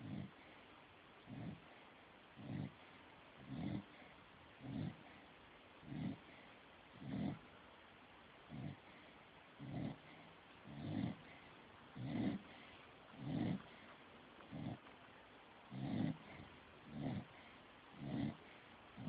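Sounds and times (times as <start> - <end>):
dog snoring: 0.0 - 0.5, 1.2 - 1.8, 2.4 - 7.5, 8.5 - 15.0, 15.6 - 19.0.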